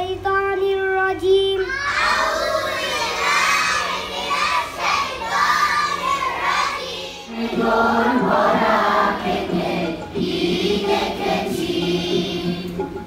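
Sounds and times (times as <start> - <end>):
children reciting in unison: 1.6 - 12.8
group singing an anthem: 2.0 - 13.0.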